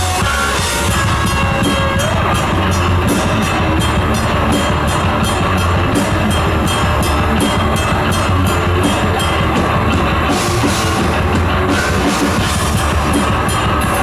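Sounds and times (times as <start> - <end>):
fast cymbal hits: 0.0 - 14.0
thrash metal band playing live: 0.0 - 14.0.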